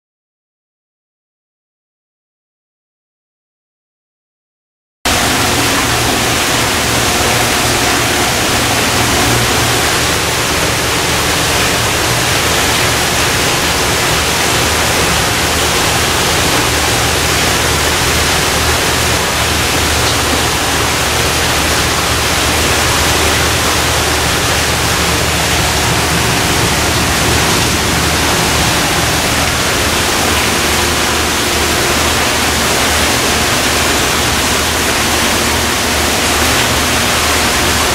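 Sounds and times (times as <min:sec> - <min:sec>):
rushing water: 0:05.1 - 0:37.9.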